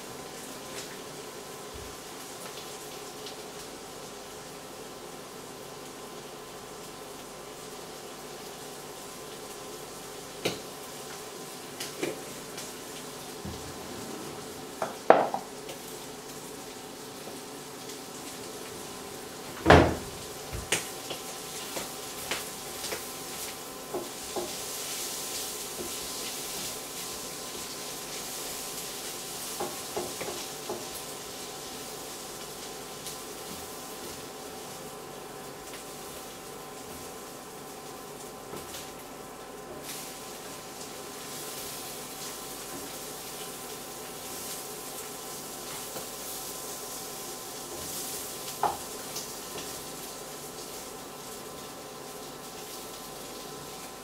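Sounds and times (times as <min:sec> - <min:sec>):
beans sizzling in a frying pan: 0:00.0 - 0:13.5, 0:14.4 - 0:54.0.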